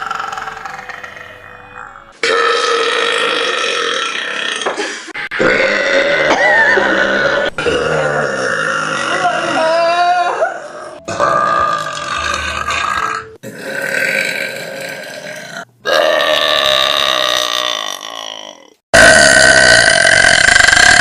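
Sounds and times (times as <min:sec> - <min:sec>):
women burping: 0:02.3 - 0:21.0.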